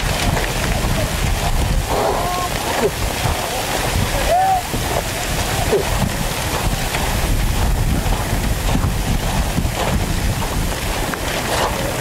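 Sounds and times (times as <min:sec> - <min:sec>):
deafening rushing rumble: 0:00.0 - 0:12.0
wind buffeting microphone: 0:00.0 - 0:12.0.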